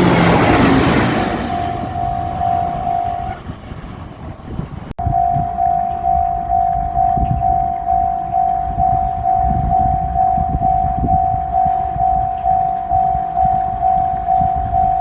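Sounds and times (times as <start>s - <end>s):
level crossing bell ringing: 0.0s - 3.4s, 5.0s - 15.0s
low rumble: 0.0s - 15.0s.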